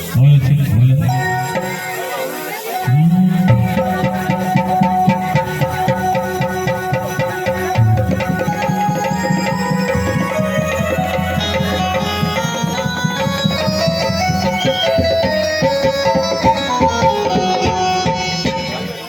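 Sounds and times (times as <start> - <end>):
music with fast dense drums: 2.9 - 19.0.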